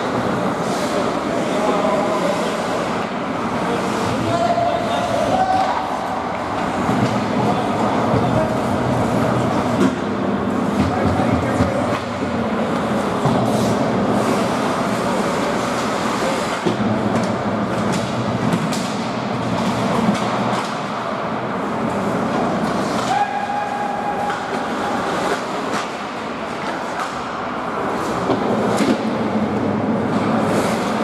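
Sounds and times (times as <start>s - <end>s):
hockey sticks and puck clacking: 0.0s - 31.0s
skates scraping ice: 0.0s - 31.0s.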